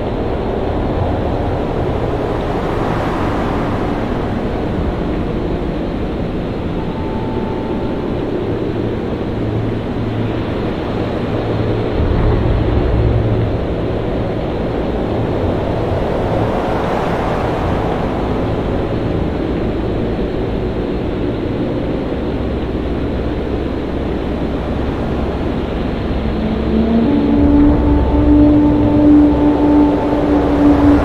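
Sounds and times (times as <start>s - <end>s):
low steady tone: 0.0s - 31.0s
steady wind: 0.0s - 31.0s
surging waves: 0.0s - 31.0s.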